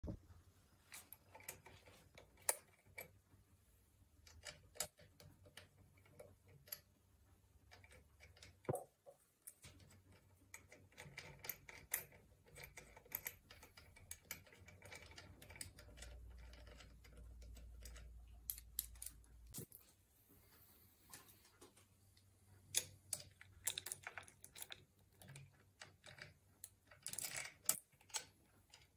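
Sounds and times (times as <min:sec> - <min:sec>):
metal parts and tools clicking: 0:00.9 - 0:03.2, 0:04.2 - 0:06.9, 0:07.6 - 0:19.7, 0:22.7 - 0:28.9.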